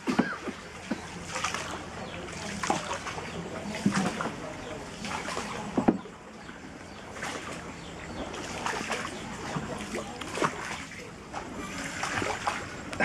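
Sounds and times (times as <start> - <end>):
paddles splashing through water: 0.0 - 13.0
water trickling: 0.0 - 13.0.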